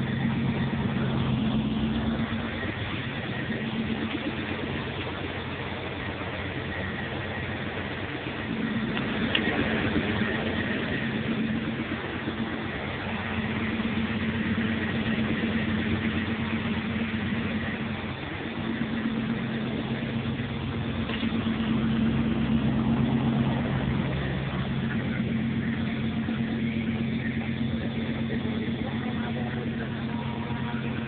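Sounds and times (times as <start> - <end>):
pickup truck engine running: 0.0 - 31.0.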